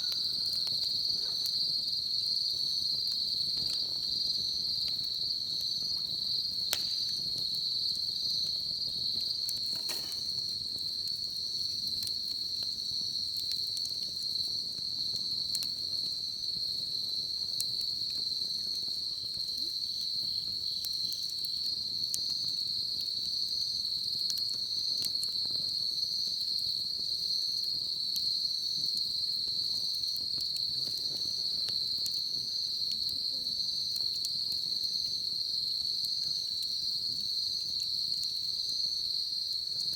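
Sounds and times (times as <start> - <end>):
bonfire crackling and popping: 0.0 - 39.9
insects trilling: 0.0 - 39.9.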